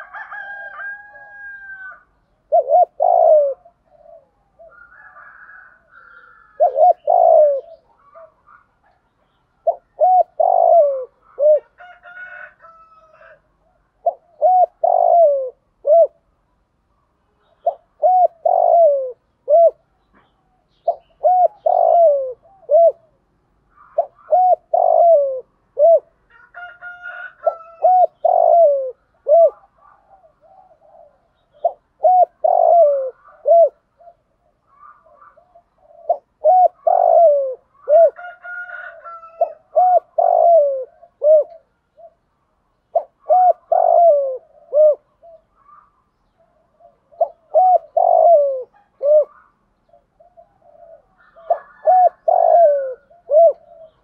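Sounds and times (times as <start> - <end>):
dove cooing: 0.0 - 16.4, 17.4 - 54.0.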